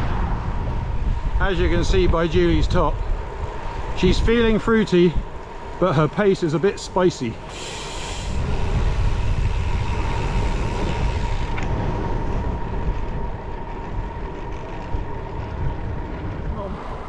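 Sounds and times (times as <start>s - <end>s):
tyres rolling on road: 0.0s - 17.0s
wind rushing over microphone: 0.0s - 17.0s
thin steady whine: 1.3s - 17.0s.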